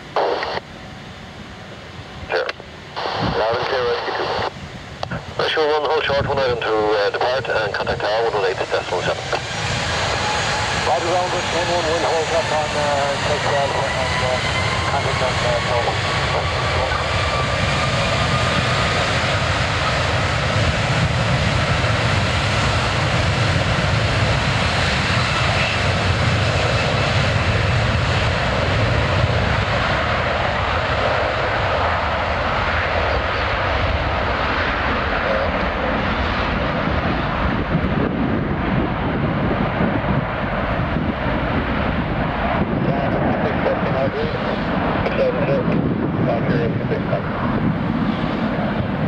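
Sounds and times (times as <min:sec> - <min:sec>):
jet engine roar at takeoff: 0:00.0 - 0:49.0.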